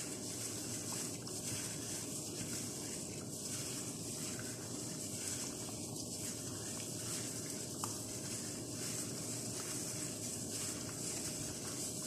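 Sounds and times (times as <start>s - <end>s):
hand squishing meat in marinade: 0.0s - 12.0s.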